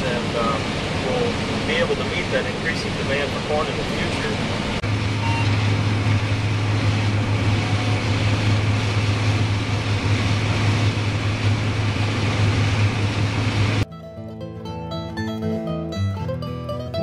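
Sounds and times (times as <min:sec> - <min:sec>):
combine harvester running: 0:00.0 - 0:13.9.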